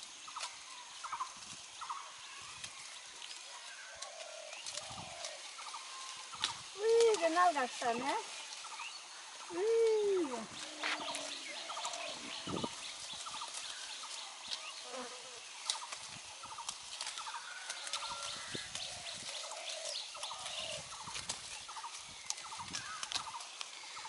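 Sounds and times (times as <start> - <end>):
leaves rustling and snapping: 0.0 - 24.0
birds chattering: 0.2 - 24.0.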